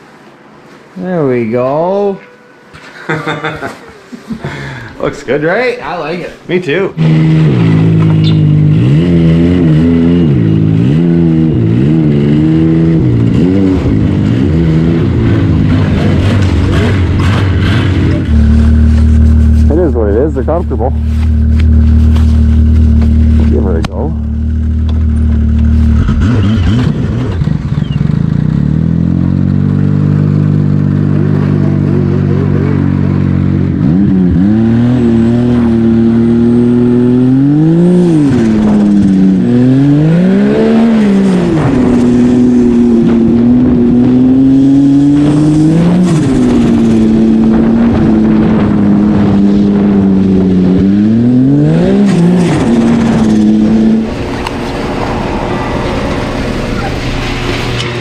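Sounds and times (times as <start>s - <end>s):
snowmobile engine revving: 4.5s - 58.0s.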